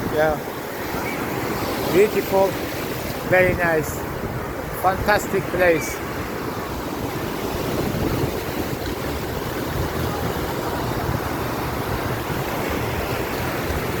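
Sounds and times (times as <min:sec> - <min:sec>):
rough surf washing onto beach: 0:00.0 - 0:14.0.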